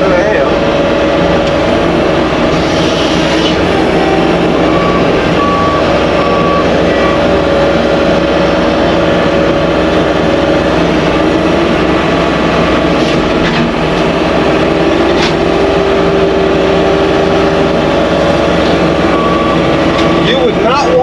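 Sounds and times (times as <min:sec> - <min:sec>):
engine and cutter drone: 0:00.0 - 0:21.0.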